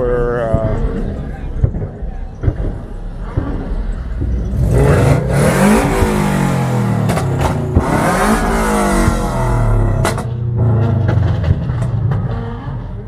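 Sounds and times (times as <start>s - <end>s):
car engine revving: 0.0s - 13.0s
exhaust cracks: 0.0s - 13.0s.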